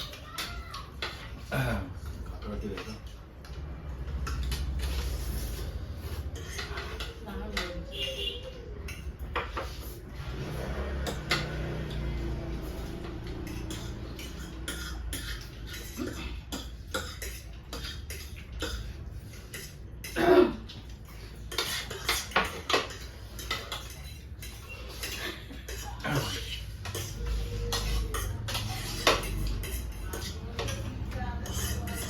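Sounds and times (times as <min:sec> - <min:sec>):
utensils clinking against bowls: 0:00.0 - 0:32.0.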